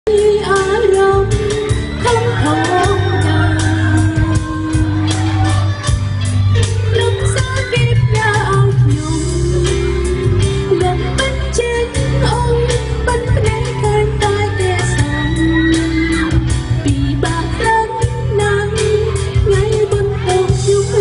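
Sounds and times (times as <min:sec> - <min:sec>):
backing music with bass and beat: 0:00.1 - 0:21.0.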